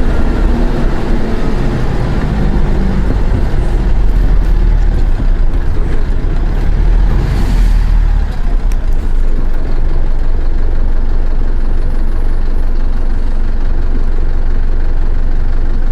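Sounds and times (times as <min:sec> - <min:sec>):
bus diesel engine running: 0:00.0 - 0:15.9.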